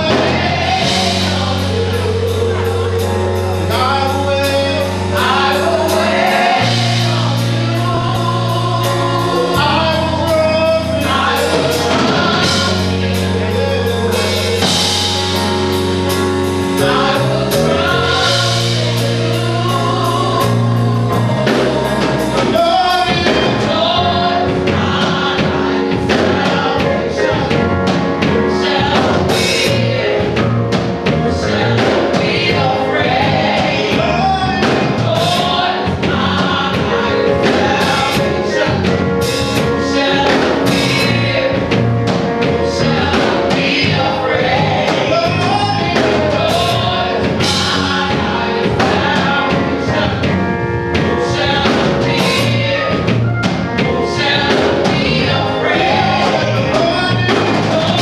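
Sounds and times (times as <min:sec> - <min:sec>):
drum and cymbal hits: 0:00.0 - 0:58.0
keyboard: 0:00.0 - 0:58.0
women singing gospel: 0:00.0 - 0:58.0.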